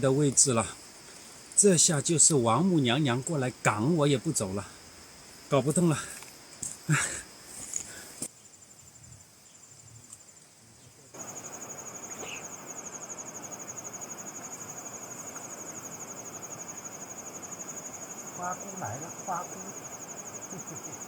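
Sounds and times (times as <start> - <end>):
insect trilling: 0.0 - 21.0
steady hiss: 0.0 - 21.0.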